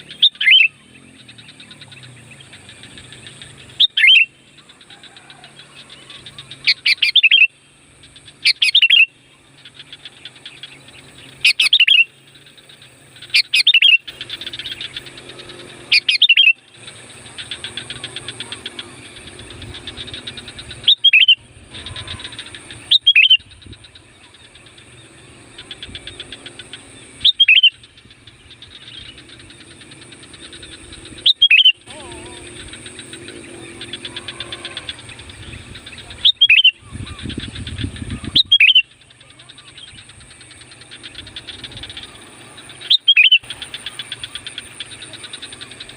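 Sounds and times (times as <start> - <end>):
bulbul calling sharply: 0.0 - 45.9
faint rapid bird chatter: 0.0 - 45.9.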